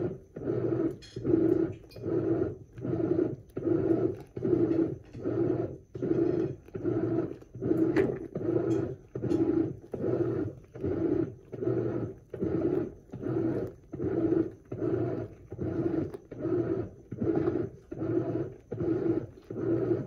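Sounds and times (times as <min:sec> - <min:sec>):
washing machine churning: 0:00.0 - 0:20.0.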